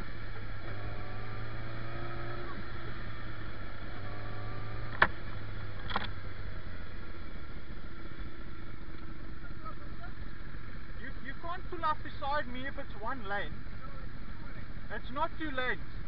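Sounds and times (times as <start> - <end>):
motorcycle engine humming: 0.0 - 16.0.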